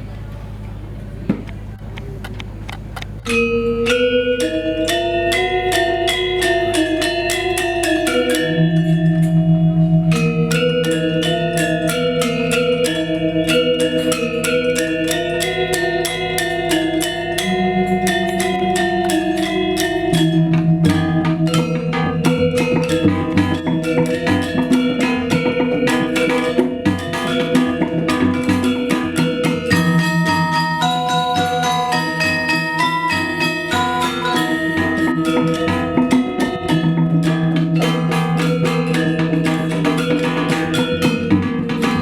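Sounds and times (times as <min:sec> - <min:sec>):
bronze metallophones playing: 0:00.0 - 0:42.0
drum strokes: 0:02.2 - 0:42.0.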